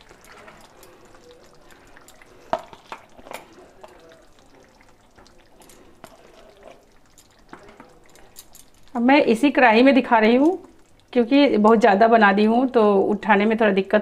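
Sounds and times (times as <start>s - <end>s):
curry faintly sizzling: 0.0s - 14.0s.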